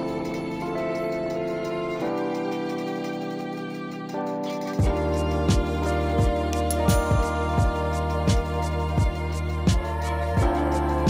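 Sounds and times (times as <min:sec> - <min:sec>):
soft sustained instrumental chord: 0:00.0 - 0:11.0.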